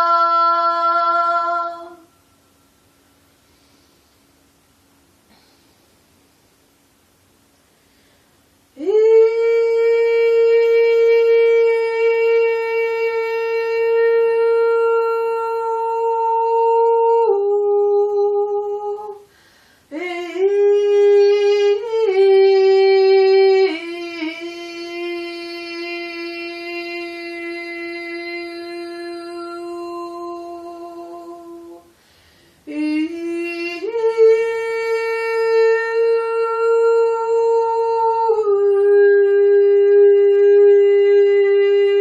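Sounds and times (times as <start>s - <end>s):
woman singing wordless notes: 0.0s - 2.8s, 8.7s - 32.0s, 32.6s - 42.0s.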